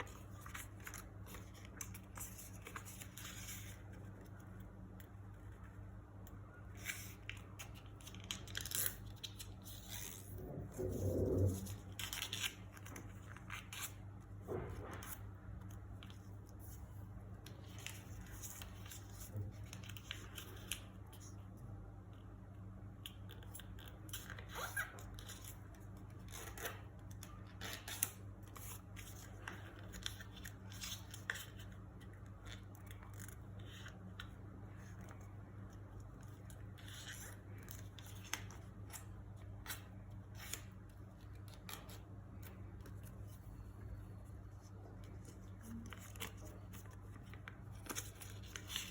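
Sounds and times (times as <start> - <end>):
paper being folded: 0.0 - 21.4, 23.0 - 48.9
low steady hum: 0.0 - 48.9.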